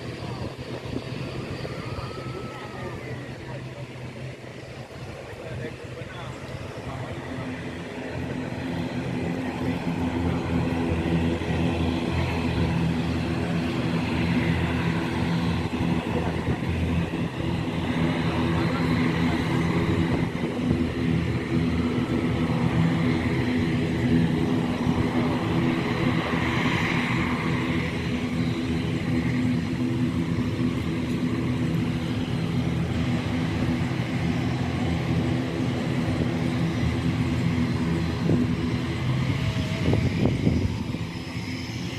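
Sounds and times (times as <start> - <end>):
aircraft engines running: 0.0 - 41.9.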